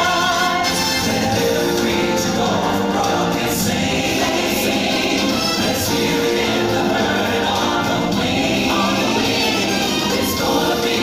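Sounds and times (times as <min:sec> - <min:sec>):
choir singing held notes: 0:00.0 - 0:11.0
stage show music: 0:00.0 - 0:11.0.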